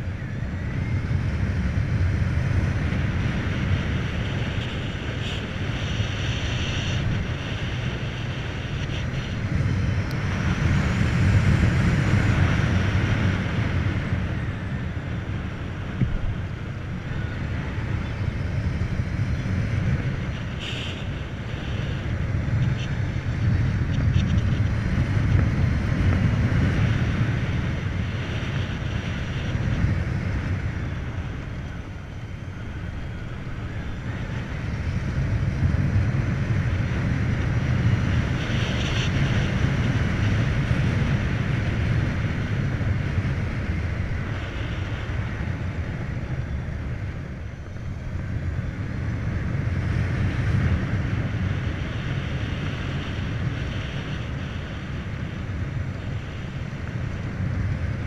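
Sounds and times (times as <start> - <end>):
road noise: 0.0 - 58.0
wind rushing over microphone: 0.0 - 58.0.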